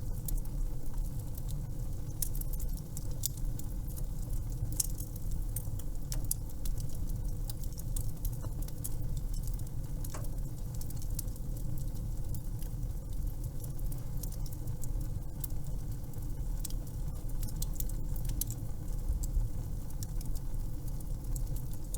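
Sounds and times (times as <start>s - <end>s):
wood fire crackling: 0.0s - 21.9s.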